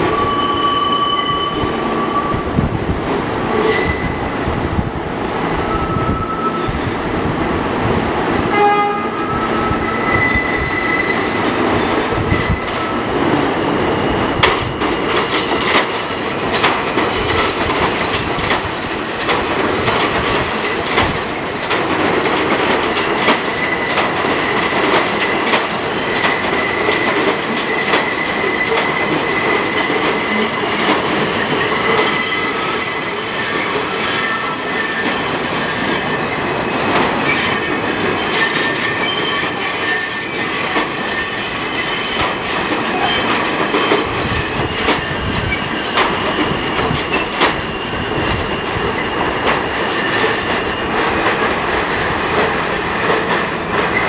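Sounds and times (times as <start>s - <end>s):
train wheels squealing: 0.0s - 2.4s, 3.6s - 4.2s, 4.8s - 7.0s, 9.1s - 13.0s, 14.1s - 22.3s, 23.4s - 51.0s, 51.9s - 54.0s.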